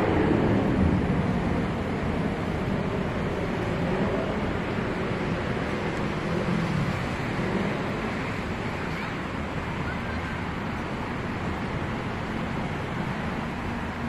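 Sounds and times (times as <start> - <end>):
distant road traffic rumble: 0.0 - 14.0
wind on microphone: 0.0 - 14.0.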